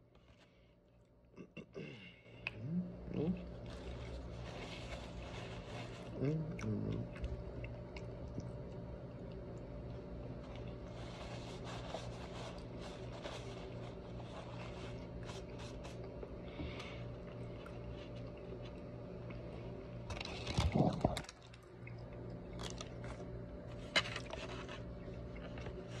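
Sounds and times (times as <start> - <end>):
steady low hum: 0.0 - 26.0
person chewing and crunching food: 0.1 - 26.0.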